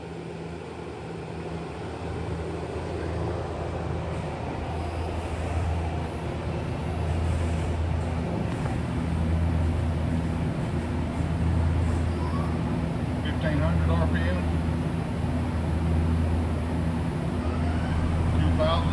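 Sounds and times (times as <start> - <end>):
low machinery hum: 0.0 - 18.9.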